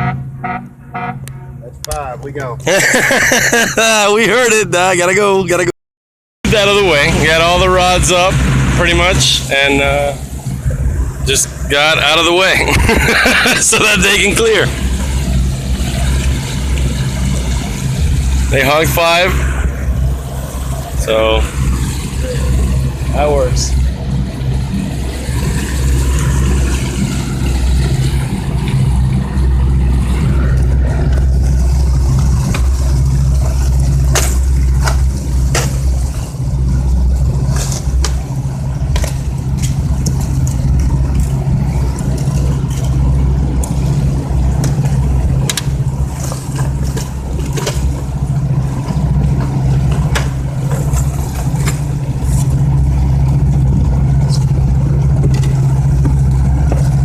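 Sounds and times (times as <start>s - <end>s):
boat engine droning: 0.0s - 5.7s, 6.4s - 57.0s.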